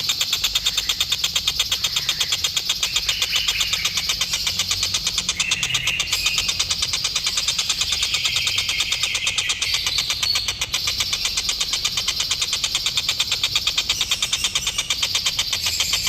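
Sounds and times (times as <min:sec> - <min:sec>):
kingfisher rattling trill: 0:00.0 - 0:16.0.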